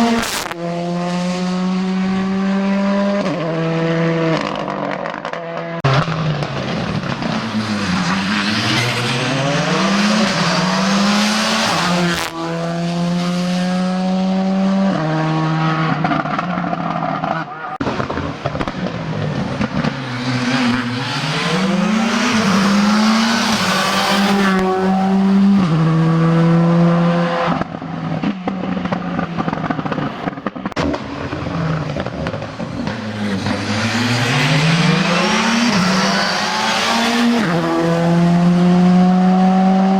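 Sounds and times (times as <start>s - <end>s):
rally car engines revving past: 0.0s - 39.9s.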